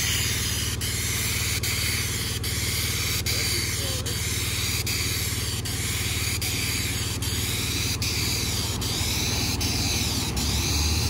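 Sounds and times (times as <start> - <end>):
passing vehicle rumble: 0.0 - 11.0
pump engine droning: 0.0 - 11.0
sealer spray hissing: 0.0 - 11.0.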